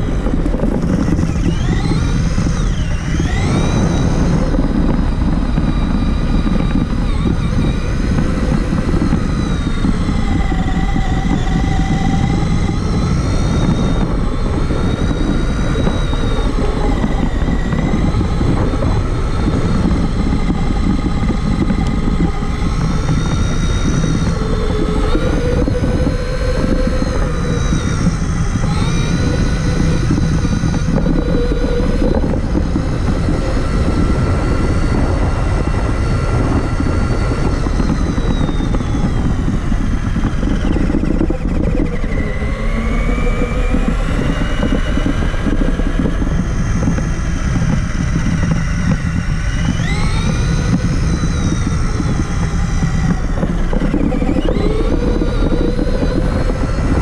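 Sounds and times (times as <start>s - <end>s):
electric motor whining: 0.0s - 57.0s
loud steady rumble: 0.0s - 57.0s.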